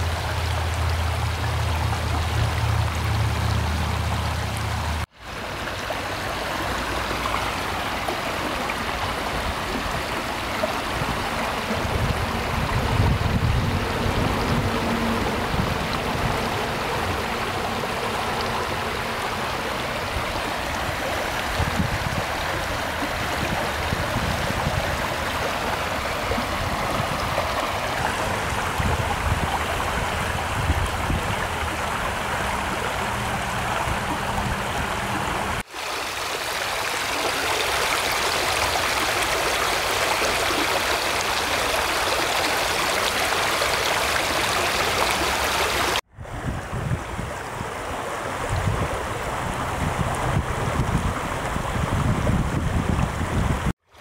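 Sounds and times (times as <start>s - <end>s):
creek water running over rocks: 0.0s - 54.0s.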